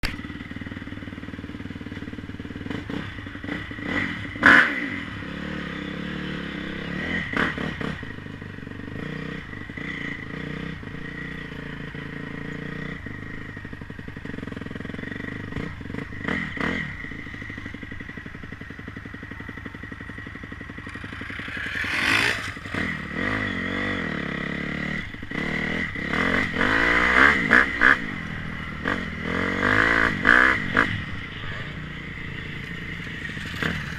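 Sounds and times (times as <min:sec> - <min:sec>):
motocross motorcycle engines revving: 0:01.9 - 0:33.9.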